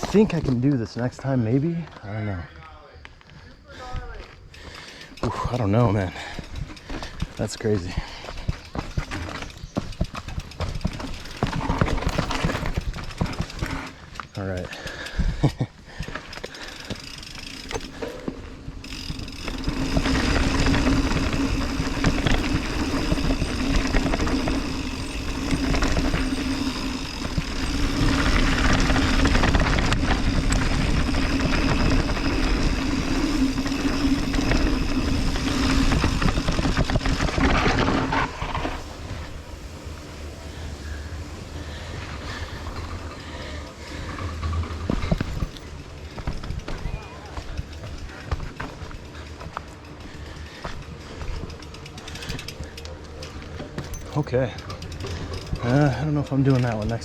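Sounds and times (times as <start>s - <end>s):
bike rattling: 0.0s - 57.0s
tyre roar on dirt: 4.7s - 14.8s, 15.9s - 57.0s.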